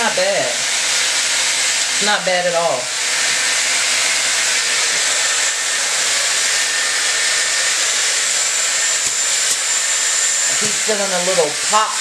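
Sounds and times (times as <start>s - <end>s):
hair styler blowing air: 0.0s - 12.0s
high-pitched whine: 0.0s - 12.0s.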